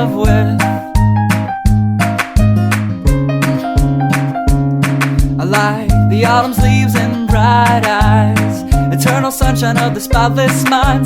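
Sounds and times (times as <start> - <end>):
bass notes: 0.0 - 11.0
guitar: 0.0 - 11.0
steady drum beat: 0.0 - 11.0
upbeat pop song: 0.0 - 11.0.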